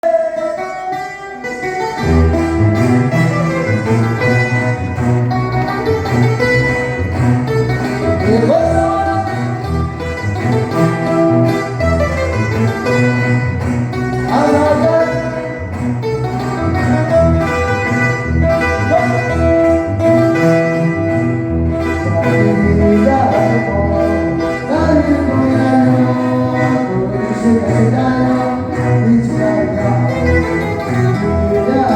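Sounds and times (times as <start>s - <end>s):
band melody instruments: 0.0s - 31.9s
tuba bass line: 1.8s - 31.9s.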